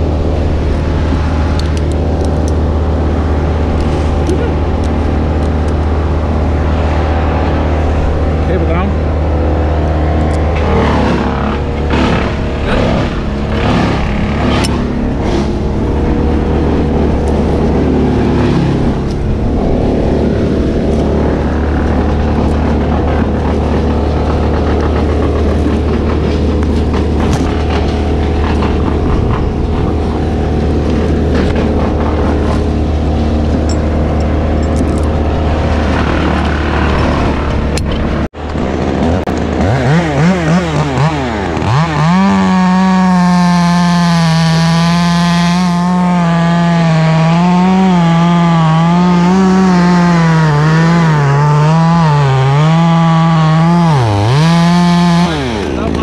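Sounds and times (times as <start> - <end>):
engine drone: 0.0 - 56.0
chainsaw cutting wood: 1.1 - 56.0.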